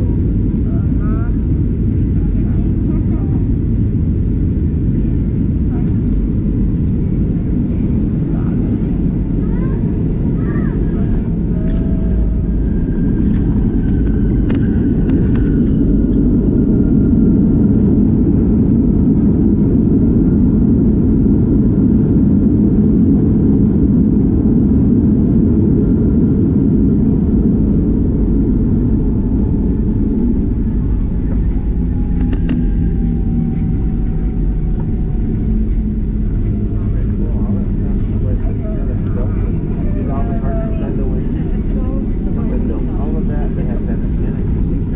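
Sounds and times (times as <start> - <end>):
airliner engine rumble in cabin: 0.0 - 44.9.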